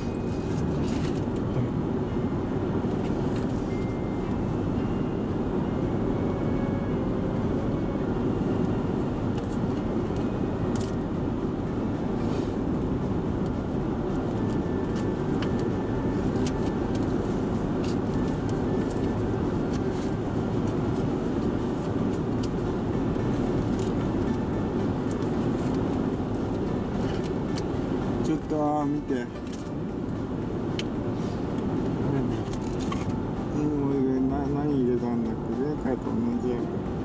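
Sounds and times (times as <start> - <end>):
engine and road rumble in cabin: 0.0 - 37.0.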